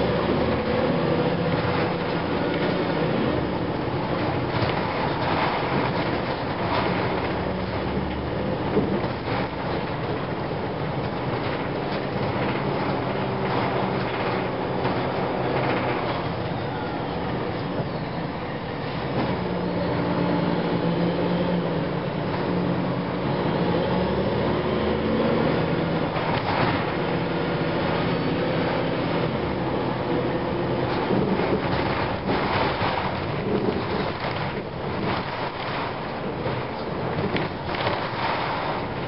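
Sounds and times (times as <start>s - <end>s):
bus diesel engine running: 0.0s - 39.0s.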